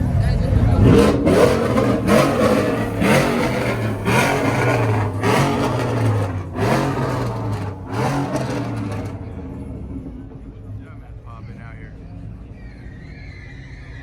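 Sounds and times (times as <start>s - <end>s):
vehicle engine revving: 0.0s - 13.0s
engine idling: 0.0s - 13.2s.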